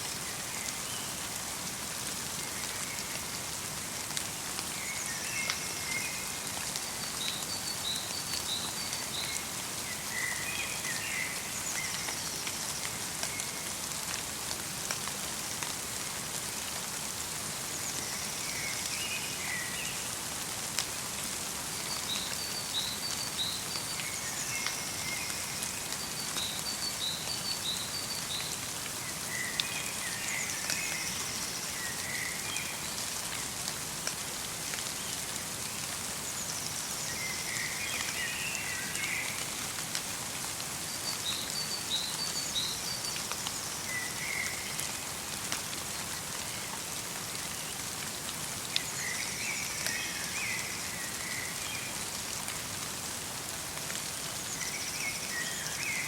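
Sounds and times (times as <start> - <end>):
light rain and snow pattering: 0.0 - 56.0.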